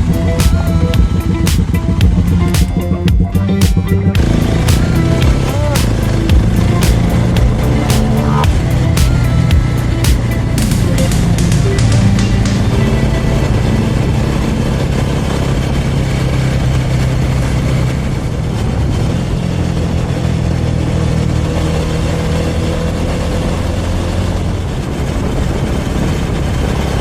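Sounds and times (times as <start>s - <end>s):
motorcycle engine while riding: 0.0s - 27.0s.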